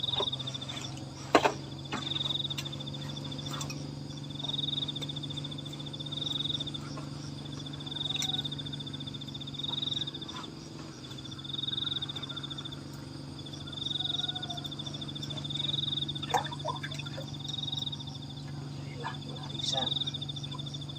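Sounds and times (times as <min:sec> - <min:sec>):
low hum: 0:00.0 - 0:20.9
animal high-pitched pulsed trills: 0:01.9 - 0:20.9.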